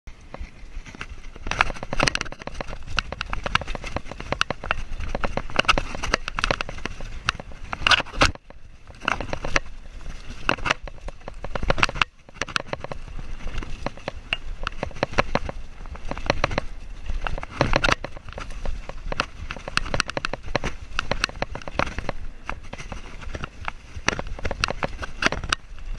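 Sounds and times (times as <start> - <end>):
camera rattling in mount: 0.2 - 25.9.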